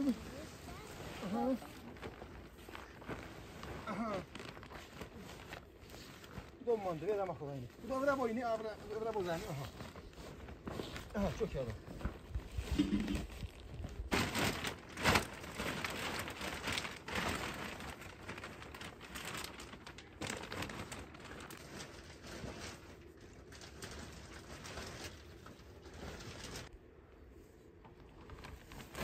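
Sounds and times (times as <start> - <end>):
rustling and crinkling: 0.0 - 29.0.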